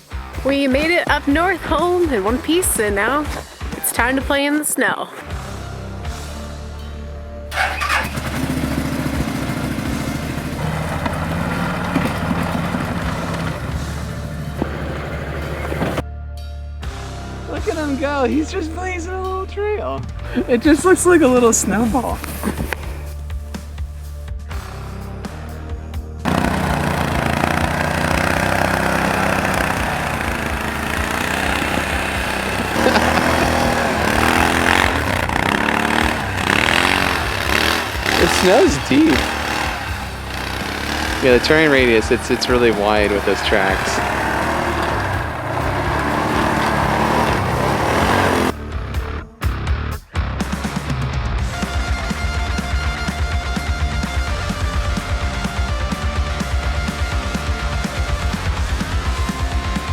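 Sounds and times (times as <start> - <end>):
atv engine running: 0.0 - 4.4, 7.5 - 16.1, 20.1 - 25.1, 26.2 - 49.4, 50.5 - 59.9.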